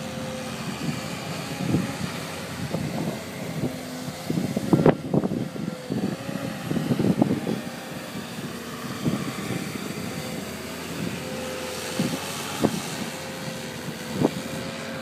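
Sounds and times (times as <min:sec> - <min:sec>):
diesel engine running: 0:00.0 - 0:15.0
steady whine: 0:00.0 - 0:15.0.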